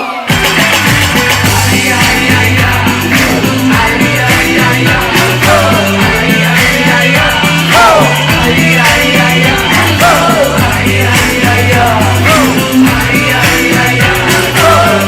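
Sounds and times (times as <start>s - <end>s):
sliding vocal line: 0.0s - 15.0s
fast drum beat: 0.3s - 15.0s
synth-bass notes: 0.3s - 15.0s.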